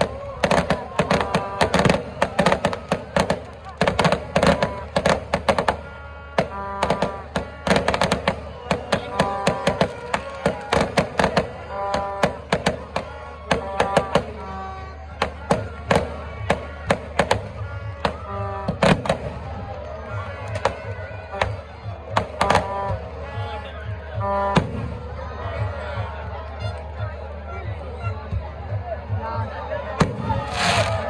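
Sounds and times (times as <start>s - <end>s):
fireworks bangs and crackles: 0.0s - 23.4s, 24.4s - 26.2s, 29.9s - 31.0s.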